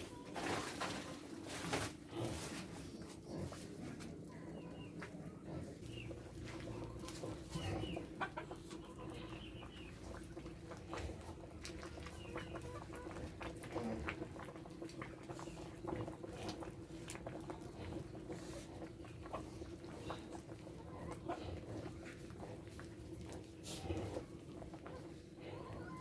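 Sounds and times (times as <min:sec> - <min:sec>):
chickens clucking: 0:00.0 - 0:13.6, 0:14.4 - 0:26.0.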